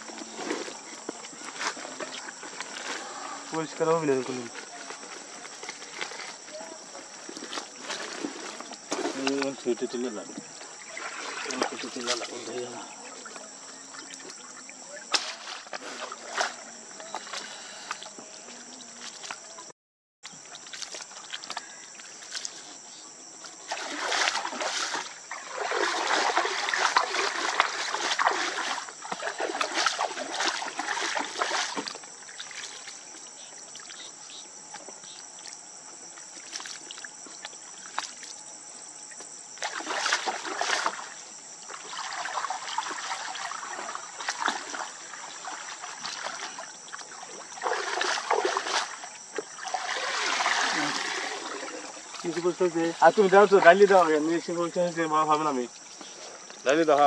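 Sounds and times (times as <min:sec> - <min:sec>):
water splashing and sloshing: 0:00.0 - 0:57.0.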